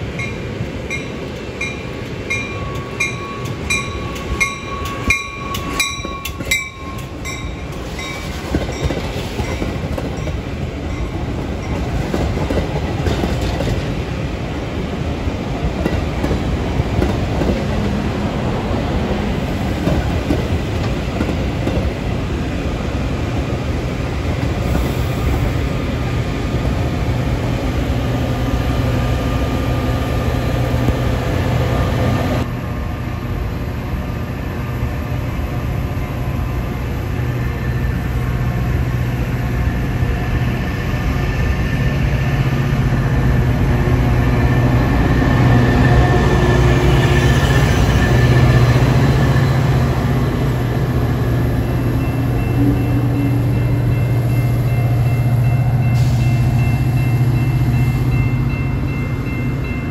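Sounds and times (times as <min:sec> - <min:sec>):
diesel locomotive drone: 0:00.0 - 0:59.9
train wheels rumbling on rails: 0:00.0 - 0:59.9.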